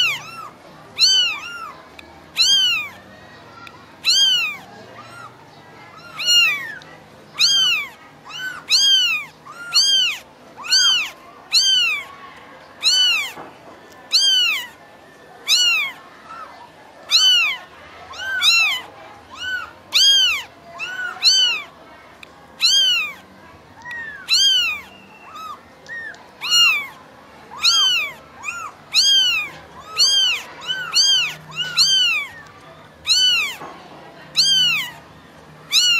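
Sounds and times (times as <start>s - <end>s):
kittens mewing: 0.0s - 35.9s.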